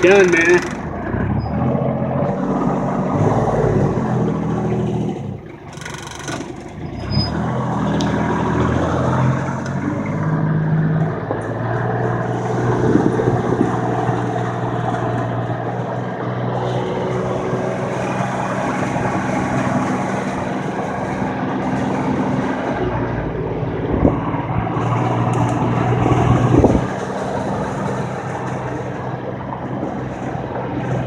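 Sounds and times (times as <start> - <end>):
road noise: 0.0 - 31.0
vehicle engine accelerating: 0.0 - 31.0.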